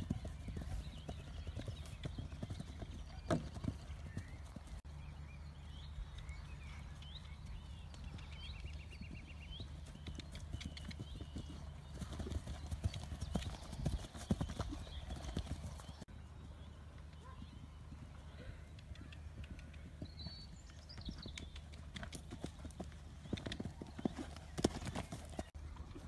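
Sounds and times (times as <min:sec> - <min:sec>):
birds chirping: 0:00.0 - 0:26.0
hooves drumming on grass: 0:00.0 - 0:26.0.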